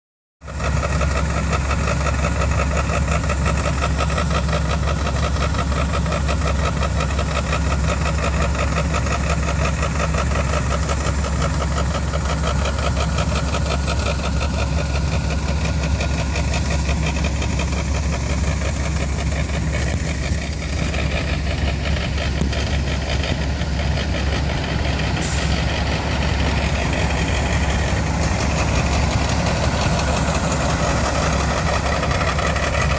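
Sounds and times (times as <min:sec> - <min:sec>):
diesel engines idling: 0:00.4 - 0:32.9.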